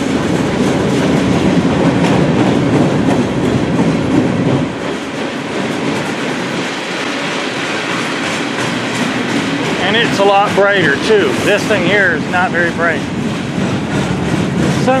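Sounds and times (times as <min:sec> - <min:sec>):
train rumble: 0:00.0 - 0:15.0
train wheels clattering on rails: 0:00.0 - 0:15.0.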